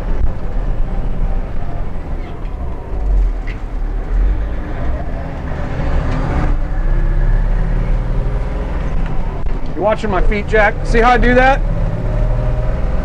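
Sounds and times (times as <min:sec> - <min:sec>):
bus engine pulling: 0:00.0 - 0:13.0.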